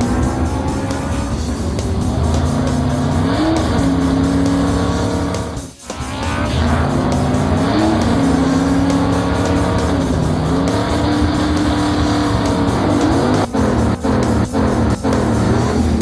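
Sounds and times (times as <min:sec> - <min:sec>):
background music: 0:00.0 - 0:16.0
cartoon vehicle engine: 0:00.0 - 0:16.0.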